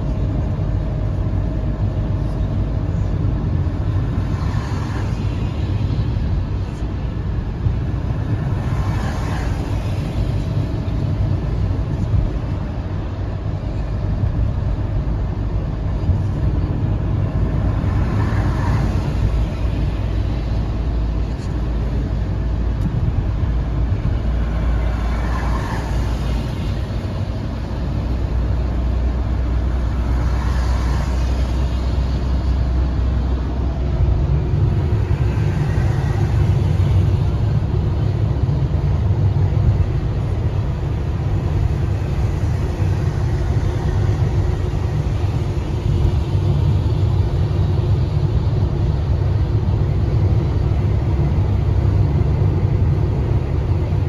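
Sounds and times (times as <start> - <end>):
car road noise on wet road: 0.0 - 54.0.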